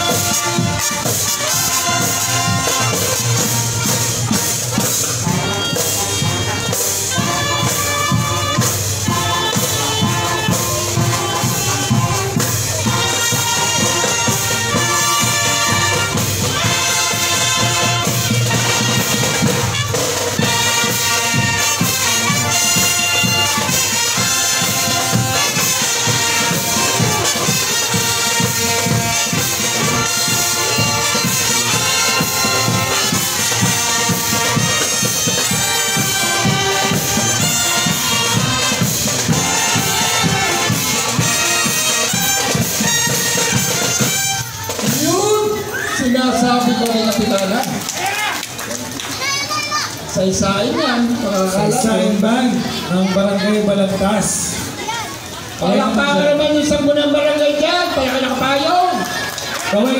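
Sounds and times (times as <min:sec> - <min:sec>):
brass marching band playing: 0:00.0 - 0:59.9
percussion keeping a beat: 0:00.0 - 0:59.9.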